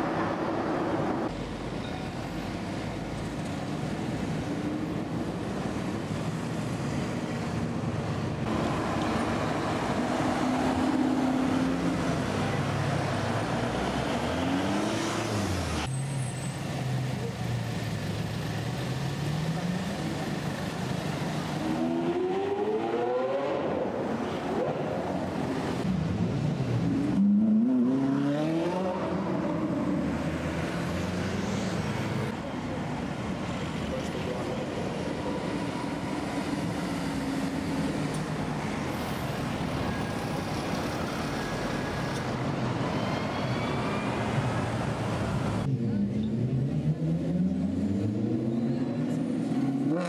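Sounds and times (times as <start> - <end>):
traffic hum: 0.0 - 50.0
car engines revving: 2.4 - 43.1, 43.7 - 50.0.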